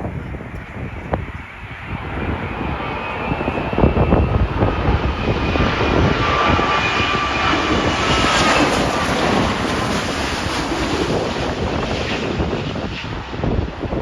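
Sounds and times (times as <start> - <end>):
jet airliner passing overhead: 0.0 - 14.0
wind buffeting microphone: 0.0 - 14.0.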